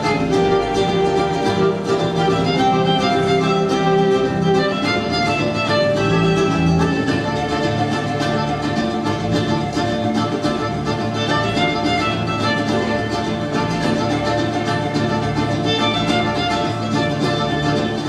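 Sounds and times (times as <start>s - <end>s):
fiddle melody: 0.0s - 18.0s
plucked strings: 0.0s - 18.0s.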